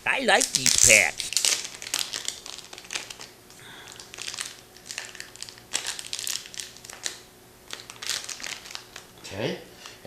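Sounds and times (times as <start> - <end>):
cellophane wrapper tearing and crinkling: 0.4 - 9.2.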